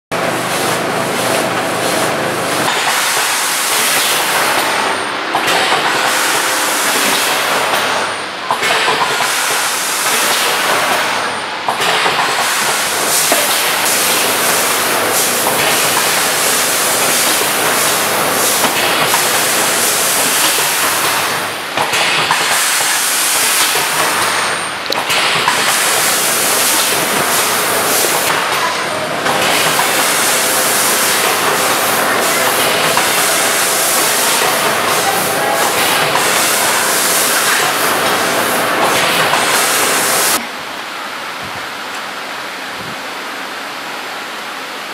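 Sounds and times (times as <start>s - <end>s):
packing machine hissing and clattering: 0.2s - 40.4s.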